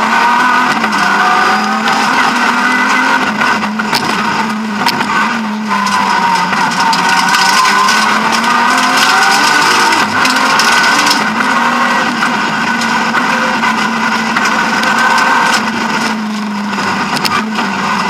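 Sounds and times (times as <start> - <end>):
car engine running hard: 0.0 - 18.0.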